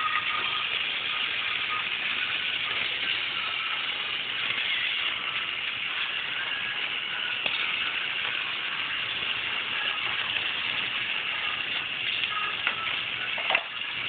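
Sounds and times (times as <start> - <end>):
toy train motors whirring: 0.0 - 14.0.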